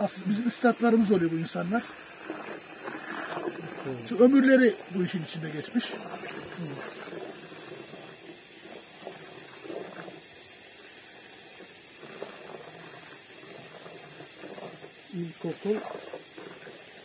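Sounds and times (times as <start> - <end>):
hose water hissing into bucket: 0.0 - 17.0.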